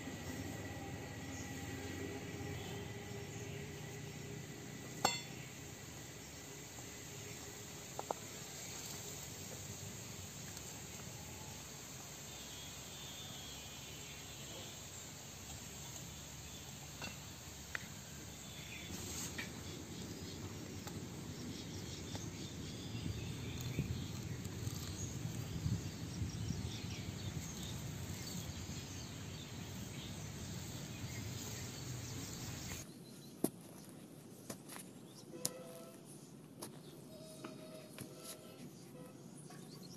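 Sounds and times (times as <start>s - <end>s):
insects chirping: 0.0s - 32.8s.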